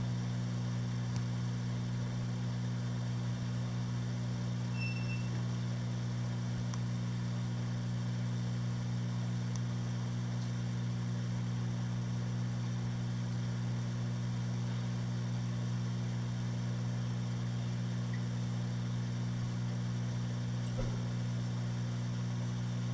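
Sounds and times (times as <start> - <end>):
aquarium pumps humming: 0.1 - 22.9.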